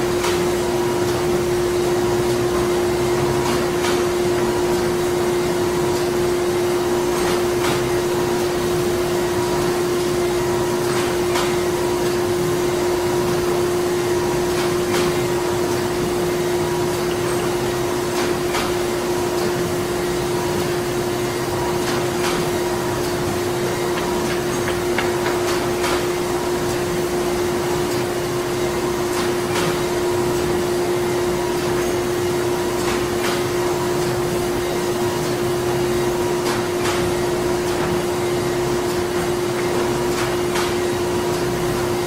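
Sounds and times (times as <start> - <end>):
machinery humming: 0.0 - 42.0.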